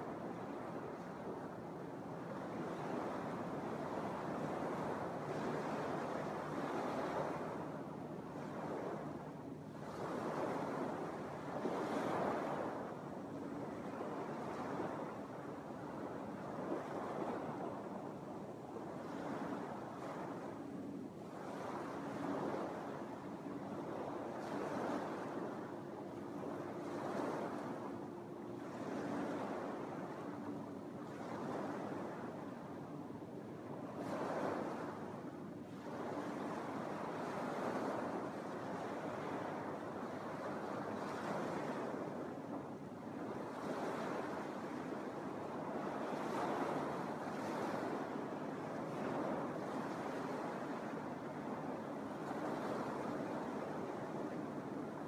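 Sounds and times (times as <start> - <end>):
faint steady hum: 0.0 - 55.0
waves washing onto beach: 0.0 - 55.0.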